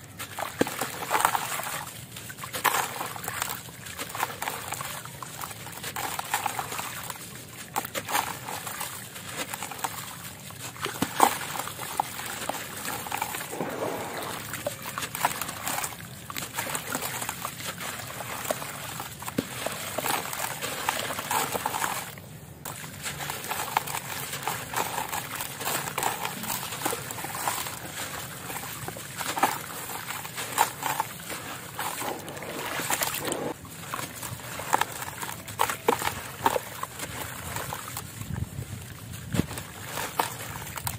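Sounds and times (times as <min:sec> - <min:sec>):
water splashing and trickling: 0:00.0 - 0:40.9.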